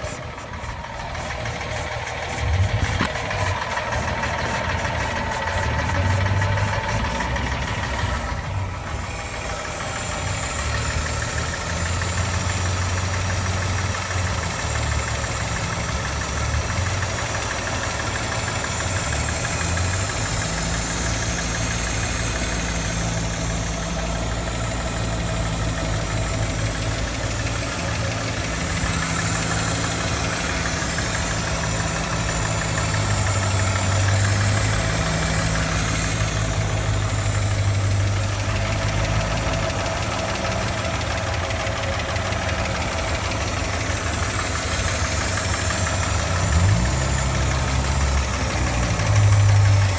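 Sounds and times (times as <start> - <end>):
car engine idling with knock: 0.0 - 49.9.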